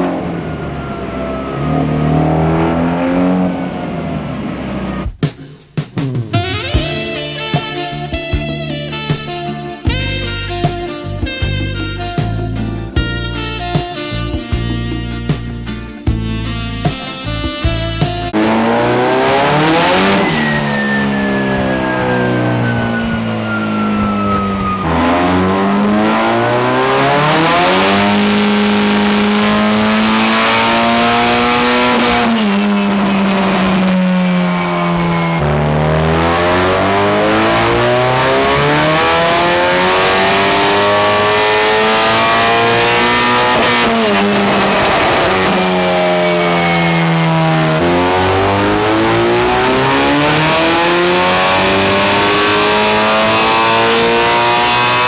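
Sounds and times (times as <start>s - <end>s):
turbocharged car engine revving: 0.0s - 10.4s, 18.3s - 55.0s.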